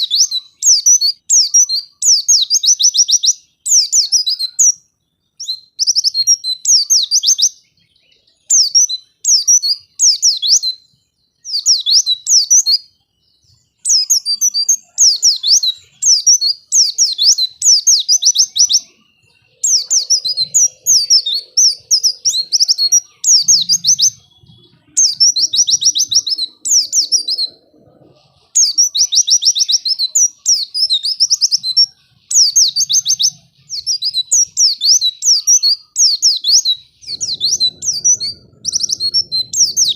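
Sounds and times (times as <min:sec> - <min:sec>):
bird singing high sweeping chirps: 0:00.0 - 0:39.9.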